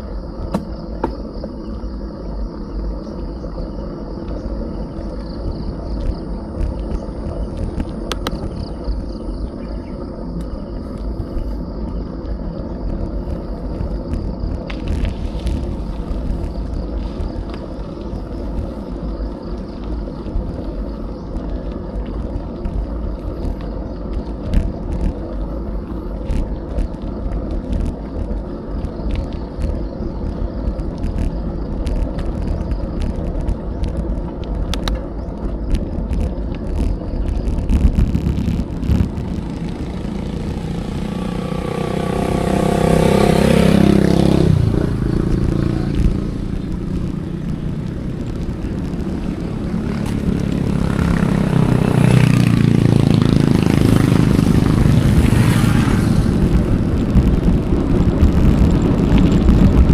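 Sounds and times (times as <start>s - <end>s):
bicycle tyre rumble on rough road: 0.0s - 59.9s
motor vehicle engine approaching: 0.0s - 59.9s
wind rush: 0.0s - 59.9s.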